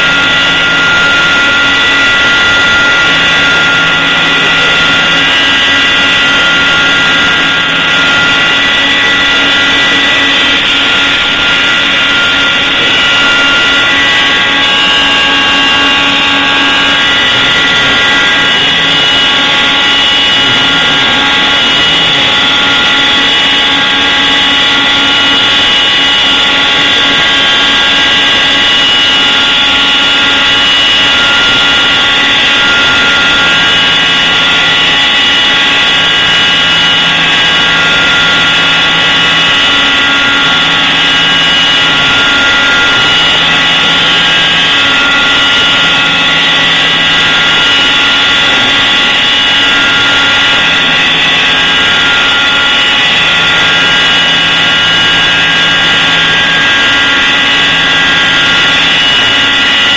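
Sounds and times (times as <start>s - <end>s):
low hum: 0.0s - 59.9s
router spindle high whine: 0.0s - 59.9s.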